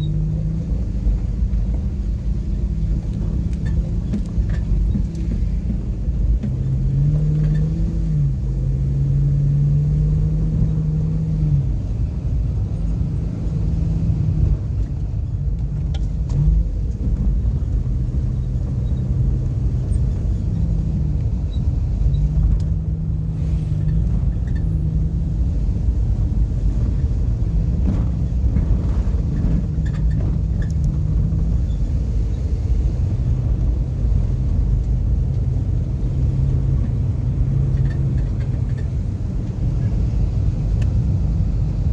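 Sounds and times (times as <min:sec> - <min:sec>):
car engine while driving: 0:00.0 - 0:41.9
road rumble: 0:00.0 - 0:41.9.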